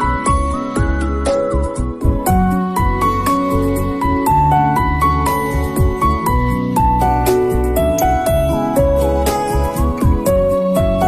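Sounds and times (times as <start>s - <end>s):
steady bass line: 0.0s - 11.0s.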